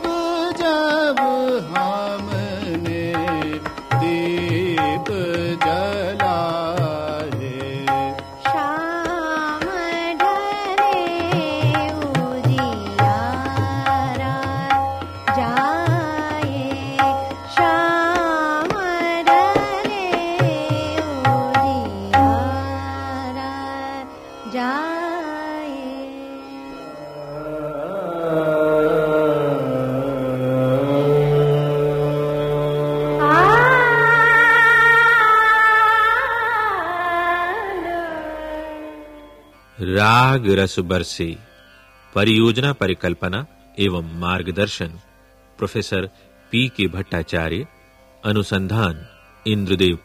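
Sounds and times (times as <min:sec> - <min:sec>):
tabla: 0:00.0 - 0:50.0
tanpura drone: 0:00.0 - 0:50.0.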